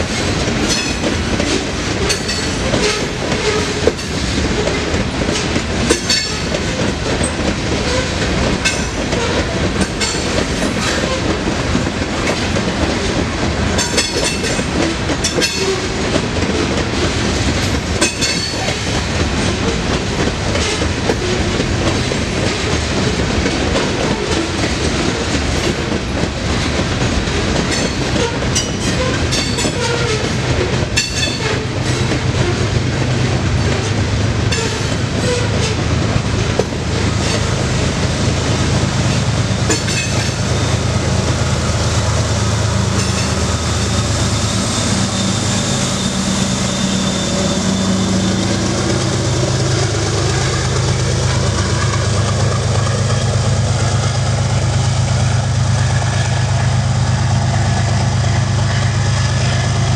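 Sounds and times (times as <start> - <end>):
diesel locomotive drone: 0.0 - 59.9
train wheels clacking over rail joints: 0.0 - 59.9.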